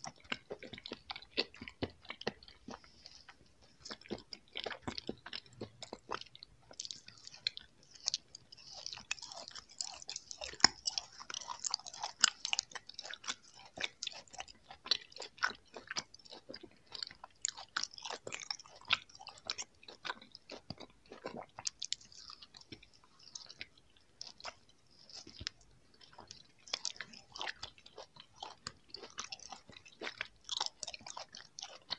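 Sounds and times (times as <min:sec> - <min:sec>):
chewing jelly candies: 0:00.0 - 0:31.9
mouth clicks and smacks: 0:00.0 - 0:31.9.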